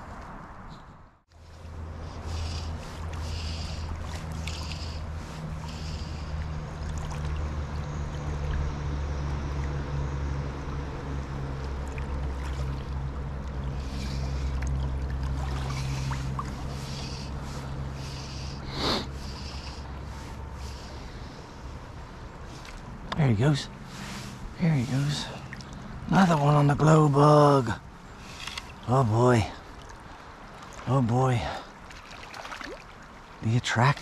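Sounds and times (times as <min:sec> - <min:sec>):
shallow river flowing: 0:01.3 - 0:34.0.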